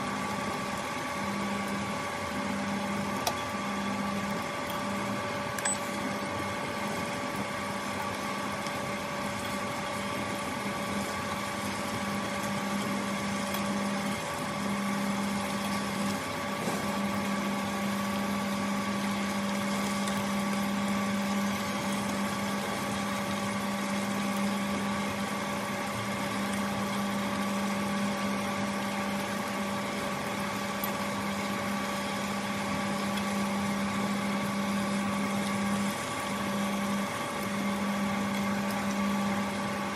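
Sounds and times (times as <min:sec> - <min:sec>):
cooling fan: 0:00.0 - 0:39.9
induction cooktop humming: 0:00.0 - 0:39.9.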